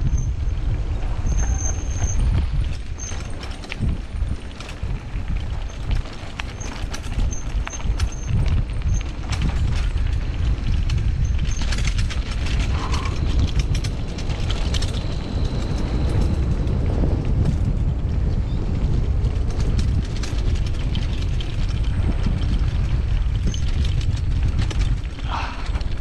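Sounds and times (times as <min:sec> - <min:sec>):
bike frame and chain rattling: 0:00.0 - 0:26.0
wind rumble on microphone: 0:00.0 - 0:26.0.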